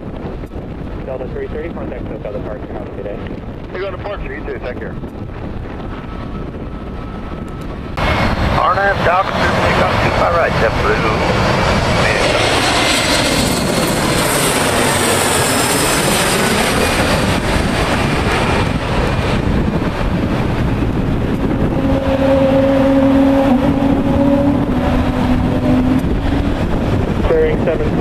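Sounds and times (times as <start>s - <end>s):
jet airliner passing overhead: 0.0s - 28.0s
steady low hum: 0.0s - 28.0s.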